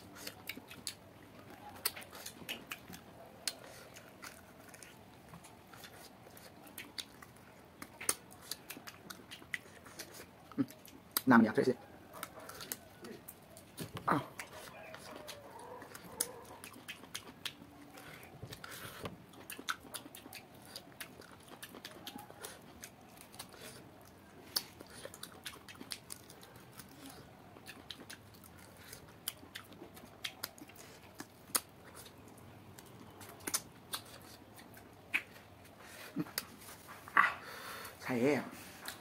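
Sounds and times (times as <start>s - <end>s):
chewing and mouth smacks: 0.0s - 11.3s, 12.1s - 37.4s.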